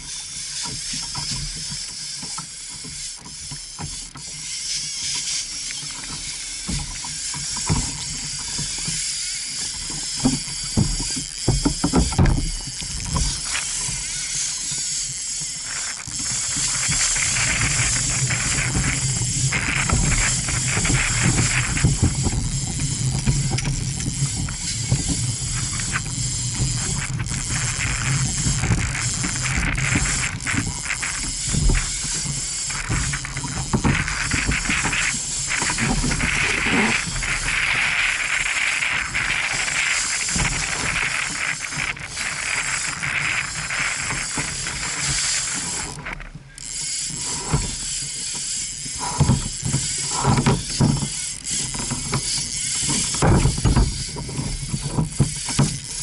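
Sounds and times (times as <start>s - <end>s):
fishing reel ratcheting: 0.0s - 56.0s
wind: 0.0s - 56.0s.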